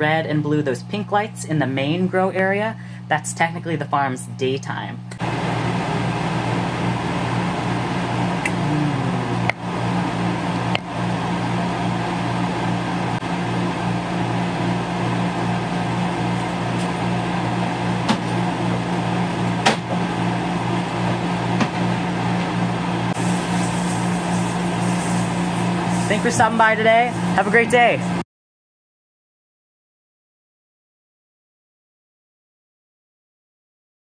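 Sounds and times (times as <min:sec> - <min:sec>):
fans whirring: 0:00.0 - 0:28.2
low electrical hum: 0:00.0 - 0:28.2.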